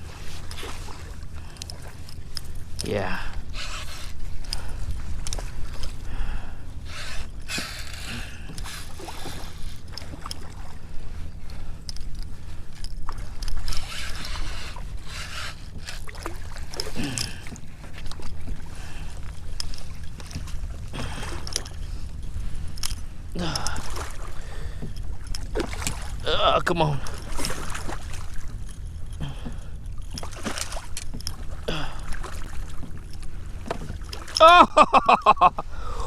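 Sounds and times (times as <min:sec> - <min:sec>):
wind rumble on microphone: 0:00.0 - 0:34.4
water splashing around a kayak: 0:00.0 - 0:36.0.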